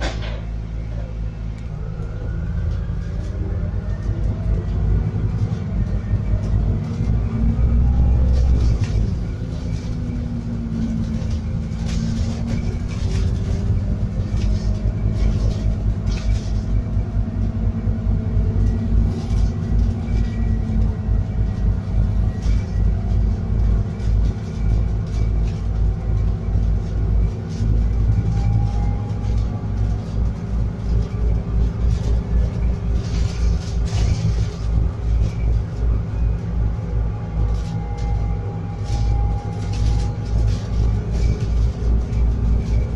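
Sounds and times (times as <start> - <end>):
rattles and knocks from bus body: 0.0 - 0.6, 6.3 - 42.9
bus engine low rumble: 0.0 - 42.9.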